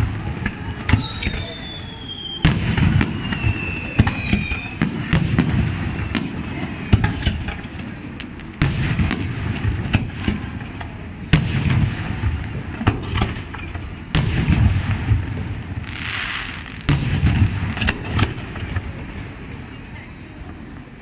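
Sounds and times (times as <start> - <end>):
low rumbling echo: 0.0 - 21.0.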